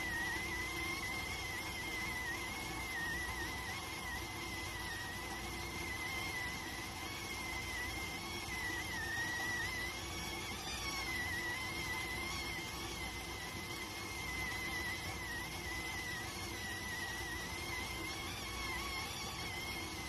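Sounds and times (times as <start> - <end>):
rice cooker whistling: 0.0 - 20.0.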